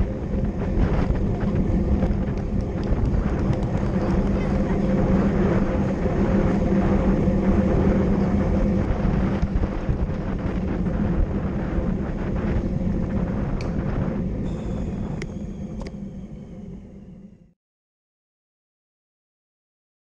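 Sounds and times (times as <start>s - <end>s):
bicycle tyre noise on asphalt: 0.0s - 17.5s
low steady hum: 0.0s - 17.5s
wind rush: 0.0s - 17.5s.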